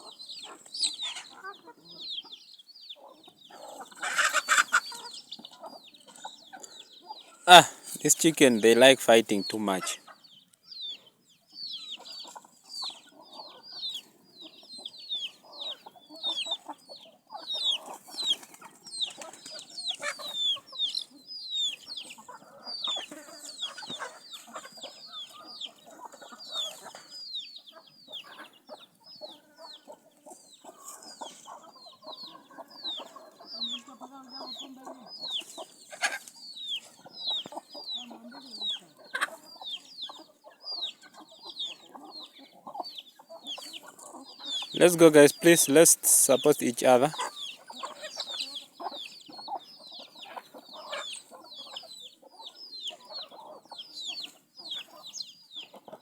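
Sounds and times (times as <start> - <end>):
chickens clucking: 0.0 - 56.0
chicks peeping: 0.0 - 56.0.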